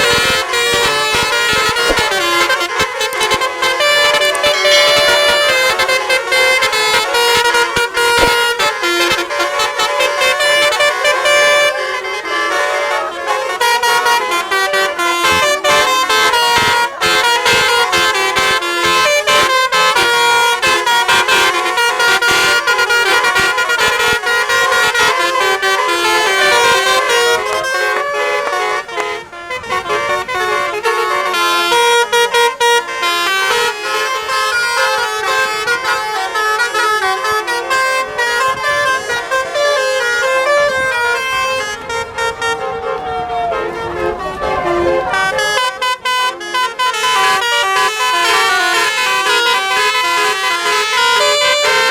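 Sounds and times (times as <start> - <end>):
multi-tone bus horn melody: 0.0 - 51.9.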